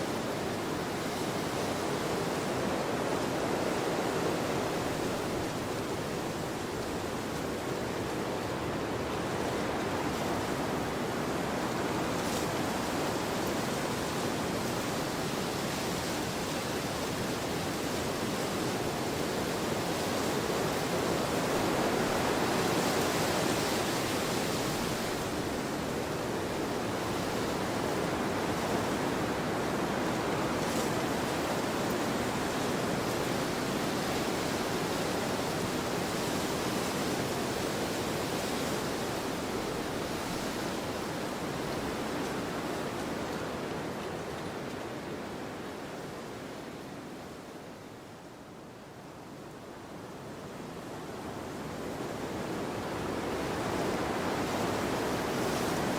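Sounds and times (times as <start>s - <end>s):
wind rushing across a field: 0.0s - 55.9s.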